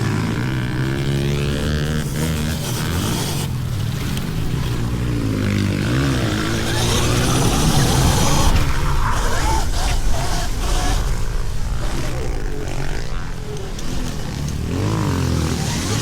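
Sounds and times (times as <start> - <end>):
pit bikes revving: 0.0 - 16.0
rough rushing noise: 0.0 - 16.0.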